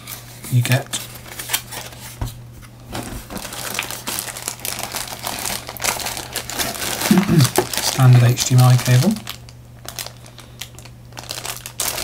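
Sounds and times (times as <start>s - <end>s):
plastic bag crinkling: 0.5s - 2.2s, 2.9s - 12.0s.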